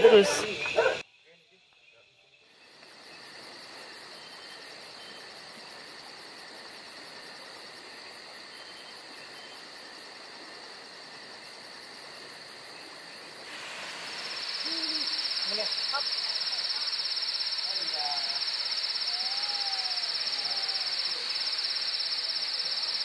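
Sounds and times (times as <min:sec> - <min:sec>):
insects trilling: 0:00.0 - 0:23.0
steady hiss: 0:00.0 - 0:23.0.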